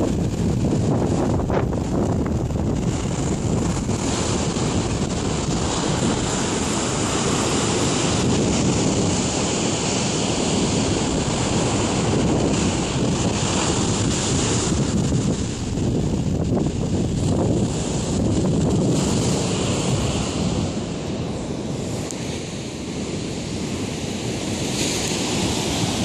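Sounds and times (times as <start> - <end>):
heavy surf breaking: 0.0 - 26.0
wind buffeting microphone: 0.0 - 26.0.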